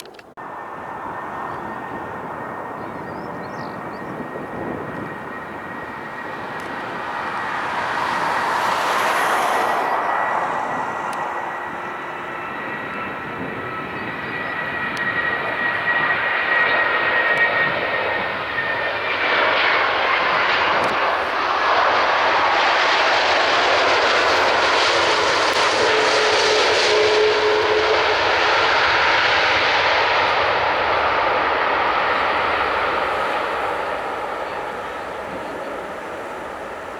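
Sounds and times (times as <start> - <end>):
airliner engines whining: 0.0 - 36.9
jet engine rushing noise: 0.0 - 36.9.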